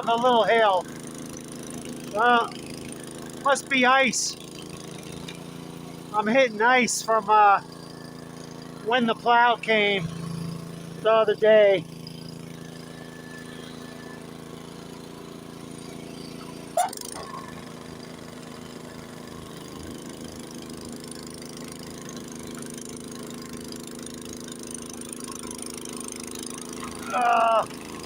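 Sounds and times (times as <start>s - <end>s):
snowblower engine running: 0.0s - 28.0s.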